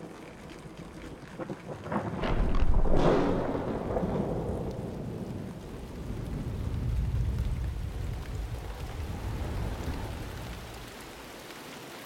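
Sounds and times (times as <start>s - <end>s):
steady rain: 0.0s - 12.0s
thunder crack and rumble: 0.7s - 11.0s.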